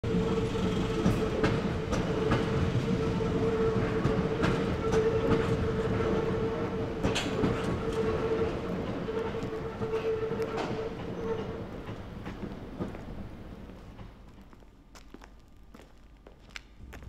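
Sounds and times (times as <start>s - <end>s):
train rumble and hum: 0.0s - 14.9s, 16.6s - 17.0s
wheels clacking over rail joints: 0.1s - 14.5s.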